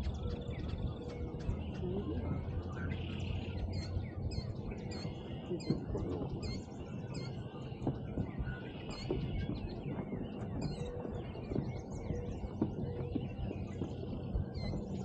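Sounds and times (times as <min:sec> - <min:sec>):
small birds singing: 0:00.0 - 0:15.0
steady low rumble: 0:00.0 - 0:15.0.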